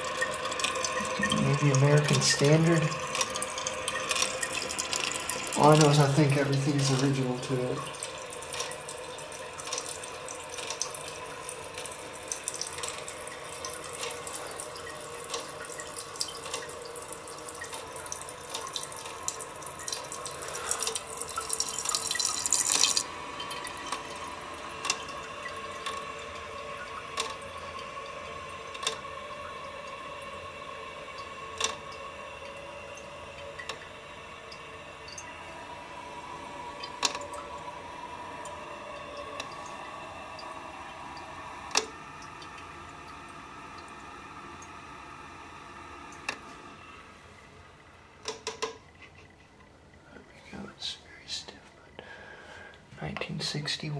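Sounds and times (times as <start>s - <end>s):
water drips: 0.0s - 50.5s
water hissing into toilet tank: 0.0s - 53.9s.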